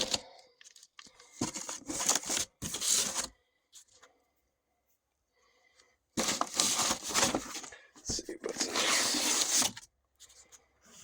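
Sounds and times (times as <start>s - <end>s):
packaging rustling and scraping: 0.0s - 4.0s, 6.2s - 11.0s.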